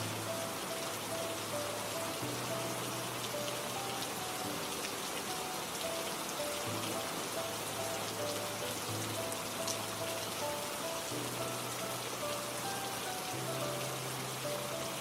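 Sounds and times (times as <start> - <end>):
soft music: 0.0 - 15.0
steady rain falling: 0.0 - 15.0.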